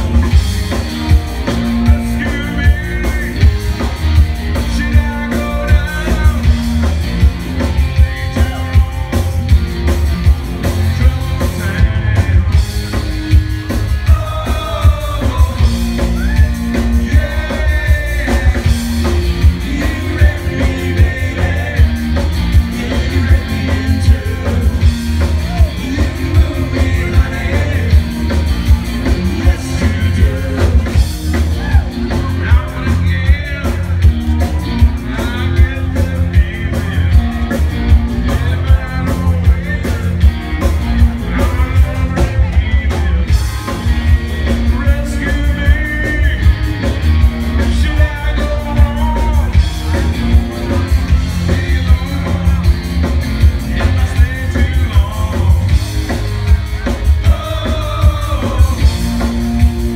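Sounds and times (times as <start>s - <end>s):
drum kit beat: 0.0s - 59.9s
heavy bass line: 0.0s - 59.9s
live rock band playing: 0.0s - 59.9s
person singing: 4.5s - 7.0s, 13.7s - 59.9s.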